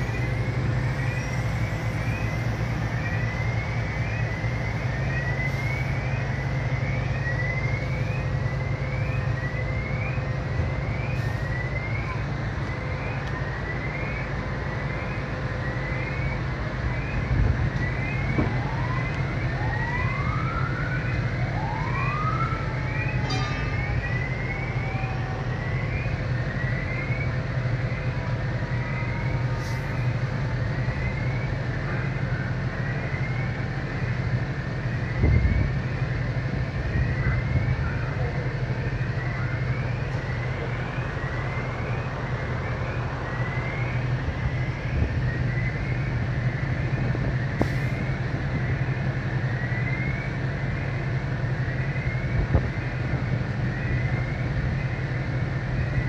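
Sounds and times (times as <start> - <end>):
fire engine motor droning: 0.0 - 56.0.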